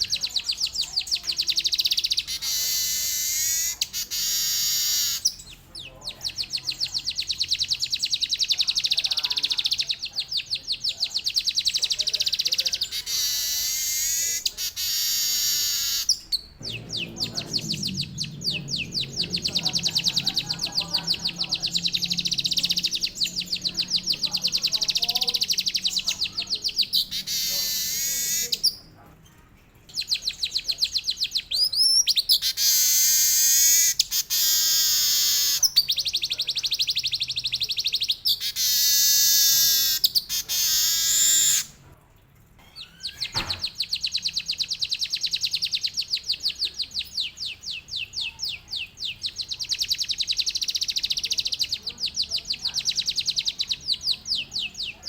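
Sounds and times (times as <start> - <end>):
weaver bird singing trills: 0.0 - 28.9, 29.8 - 41.7, 42.8 - 55.0.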